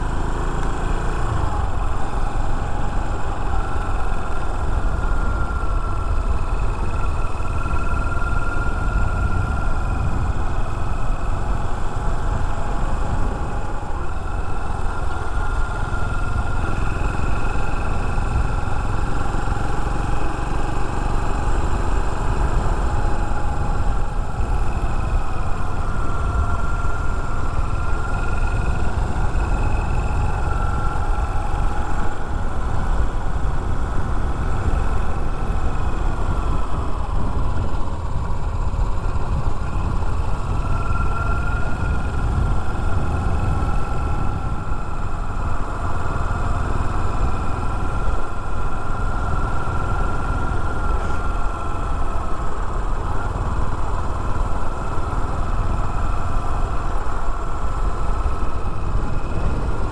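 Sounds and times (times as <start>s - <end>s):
motorcycle engine running: 0.0s - 59.9s
wind and road rush: 0.0s - 59.9s.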